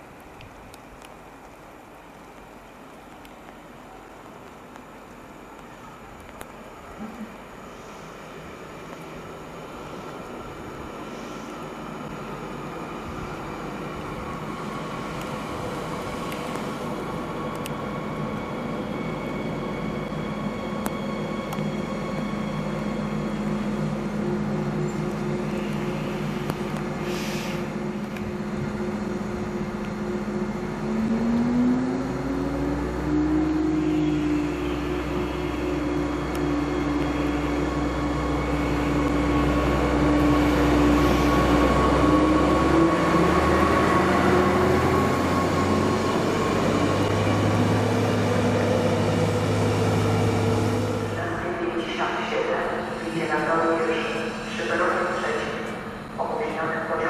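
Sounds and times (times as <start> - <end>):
diesel train engine: 0.0 - 57.0.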